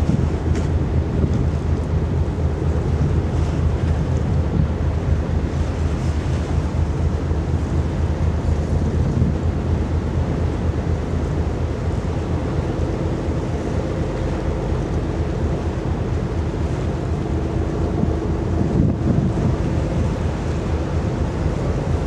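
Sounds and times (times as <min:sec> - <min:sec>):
faint hum: 0:00.0 - 0:22.0
low rumble: 0:00.0 - 0:22.0
wind buffeting microphone: 0:00.0 - 0:22.0.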